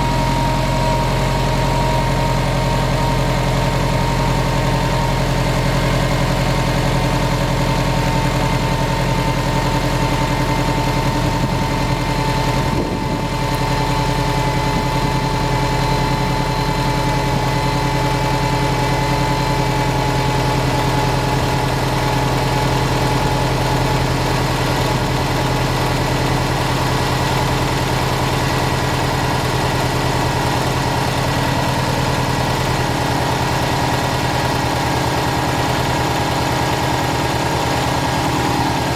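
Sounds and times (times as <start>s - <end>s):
car engine idling: 0.0s - 38.9s
engine ticking: 0.0s - 38.9s.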